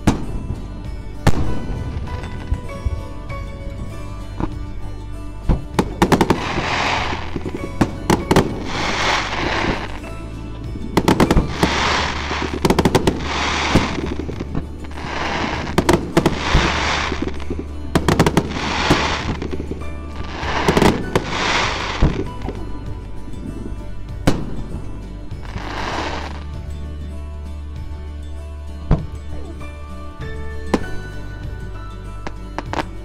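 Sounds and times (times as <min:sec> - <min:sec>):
fireworks exploding: 0:00.0 - 0:10.2, 0:10.8 - 0:26.7, 0:30.6 - 0:31.6, 0:32.2 - 0:33.0
background music: 0:00.0 - 0:33.0.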